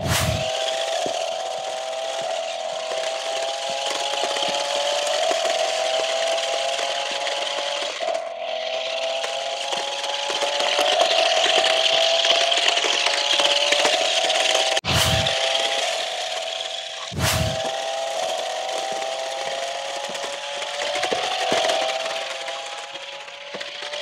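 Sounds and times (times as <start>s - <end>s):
electric motors whirring: 0.0s - 24.0s
wheels rolling on gravelly asphalt: 0.3s - 24.0s.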